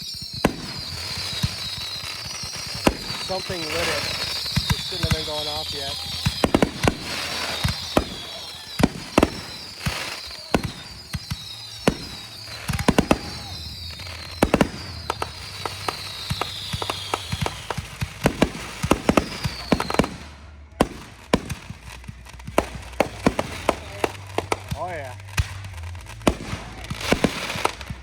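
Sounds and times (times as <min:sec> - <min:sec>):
fireworks bangs and pops: 0:00.0 - 0:28.0
fireworks falling whistles: 0:00.0 - 0:28.0.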